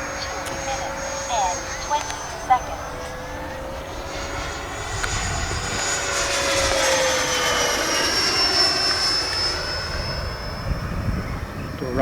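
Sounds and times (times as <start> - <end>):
model jet fan whine passing: 0.0 - 12.0.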